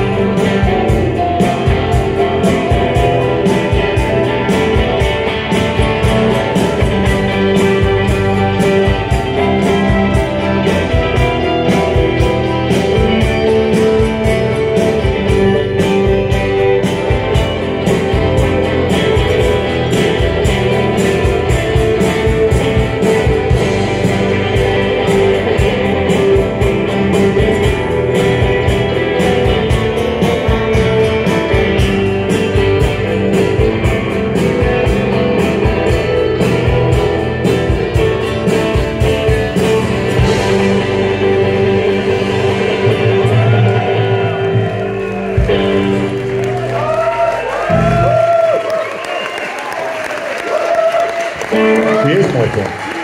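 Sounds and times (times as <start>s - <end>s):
steady drum beat: 0.0s - 48.8s
electric guitars: 0.0s - 53.0s.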